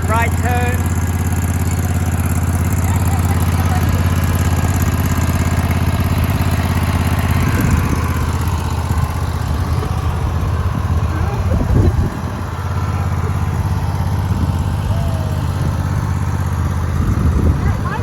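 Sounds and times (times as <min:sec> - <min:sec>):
lawn mower engine humming: 0:00.0 - 0:18.0.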